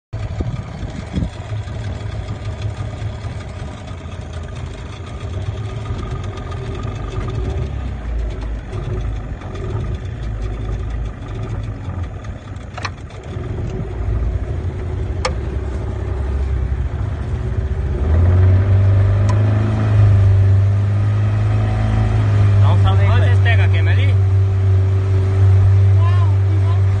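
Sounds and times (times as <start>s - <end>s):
vehicle engine running: 0.1s - 27.0s.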